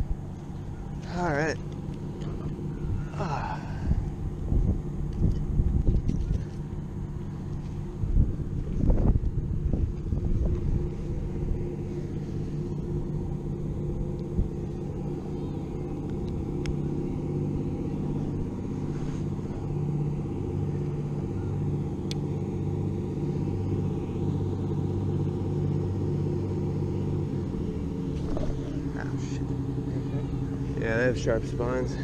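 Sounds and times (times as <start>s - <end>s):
engine idling hum: 0.0s - 32.0s.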